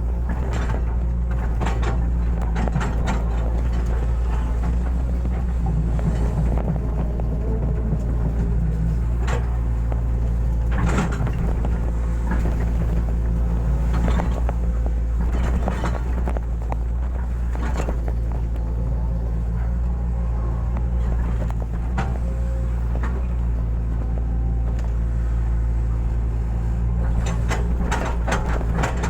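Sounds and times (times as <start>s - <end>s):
excavator diesel engine running: 0.0s - 29.0s
knocks and clanks: 0.1s - 25.1s, 26.8s - 29.0s.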